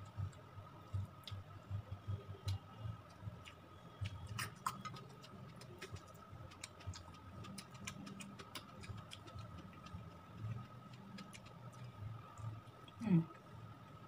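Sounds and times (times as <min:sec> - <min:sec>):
muffled chewing: 0:00.0 - 0:13.4.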